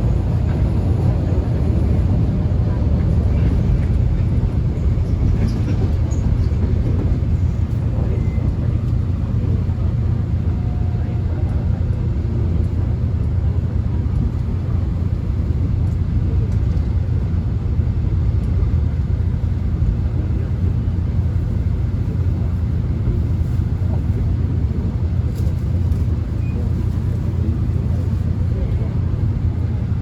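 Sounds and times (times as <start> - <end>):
subway train rumbling on track: 0.0 - 30.0.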